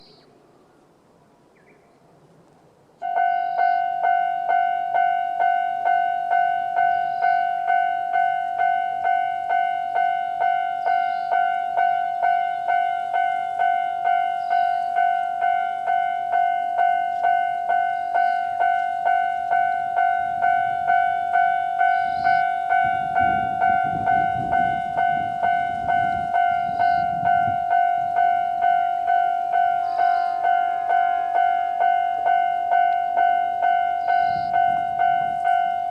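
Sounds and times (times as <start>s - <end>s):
diesel railcar rumbling past: 0.0s - 35.9s
level-crossing alarm bell clanging: 3.0s - 35.9s.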